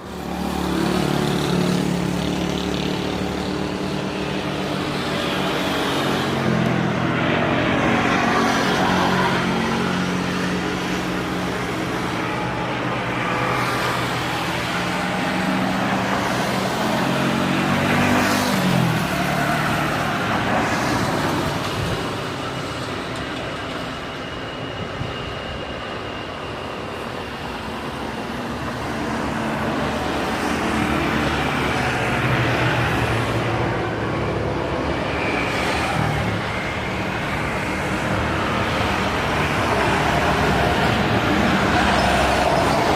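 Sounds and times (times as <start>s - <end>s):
road traffic: 0.0s - 42.9s.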